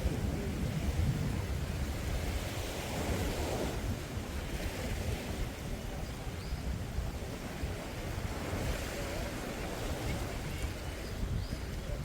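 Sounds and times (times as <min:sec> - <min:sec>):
waves washing onto beach: 0:00.0 - 0:12.0
wind buffeting microphone: 0:00.0 - 0:12.0.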